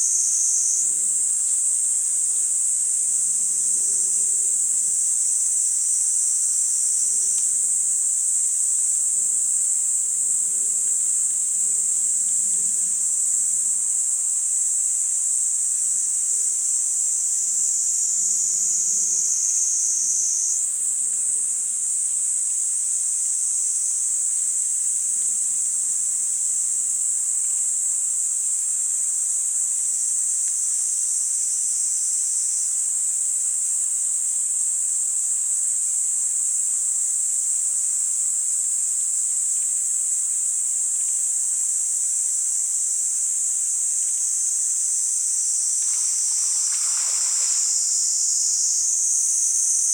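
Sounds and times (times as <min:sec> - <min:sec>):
cicadas buzzing: 0:00.0 - 0:49.9.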